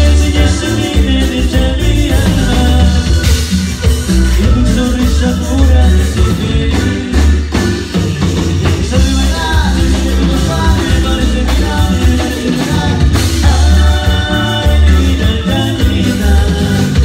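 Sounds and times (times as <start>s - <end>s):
cumbia band music: 0.0s - 17.0s.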